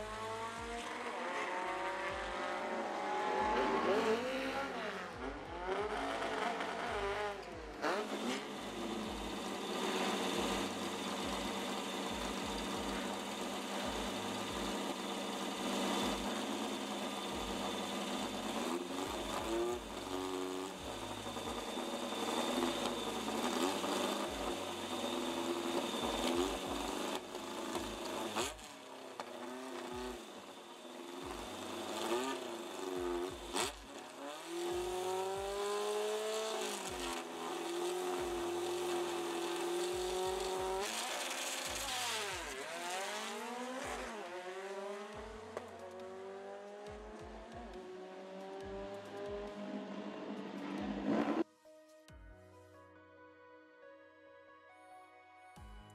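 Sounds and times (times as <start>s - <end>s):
car engines idling and revving: 0.0s - 51.4s
cars launching and pulling away: 0.0s - 51.4s.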